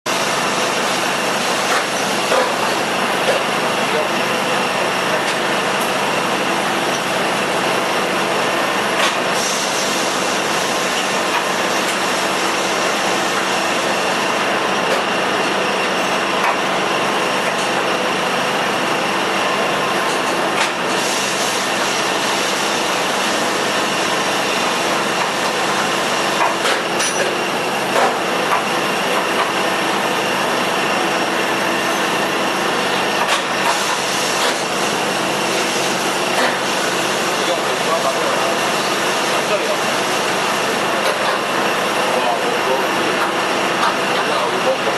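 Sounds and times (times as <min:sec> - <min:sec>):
constant machine hum: 0:00.1 - 0:44.9
grinding machinery hiss: 0:00.1 - 0:44.9.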